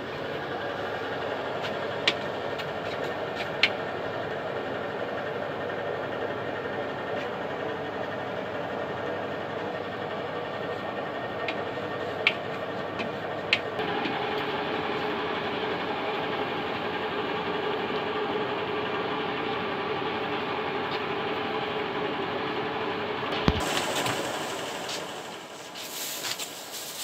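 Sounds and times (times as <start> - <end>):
mixer motor drone: 0.0 - 27.0.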